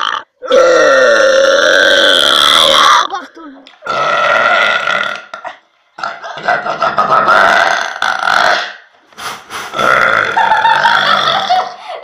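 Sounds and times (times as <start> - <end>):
woman burping loudly: 0.0 - 3.2, 3.8 - 8.9, 9.7 - 12.0.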